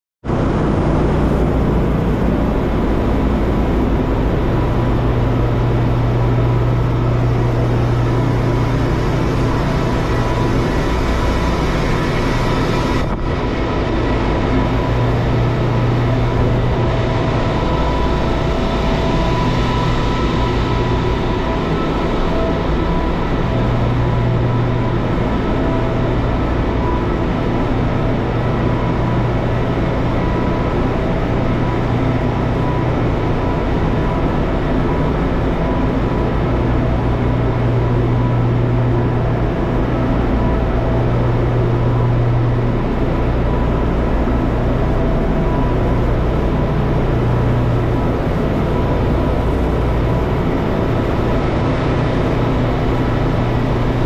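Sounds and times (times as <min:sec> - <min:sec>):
diesel generator engines drone: 0:00.3 - 0:54.0.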